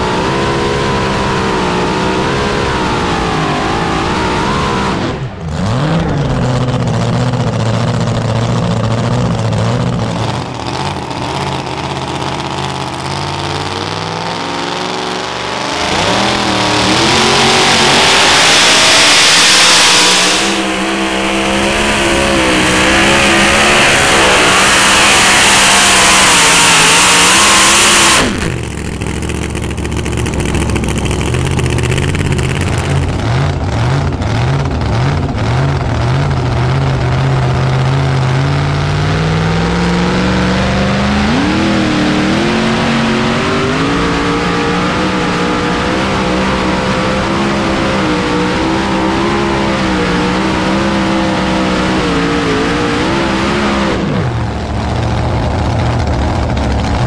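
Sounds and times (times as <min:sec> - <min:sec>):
supercharged engine running flat out: 0:00.0 - 0:57.0.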